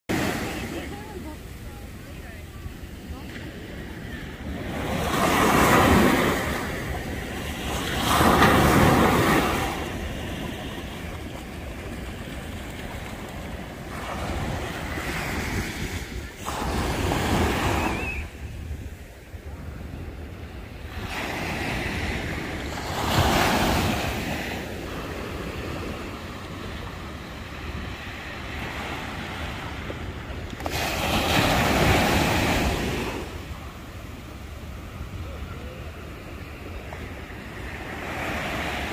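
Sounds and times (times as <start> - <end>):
small waves breaking on sand: 0.1 - 38.9
wind rumbling on microphone: 0.2 - 38.9.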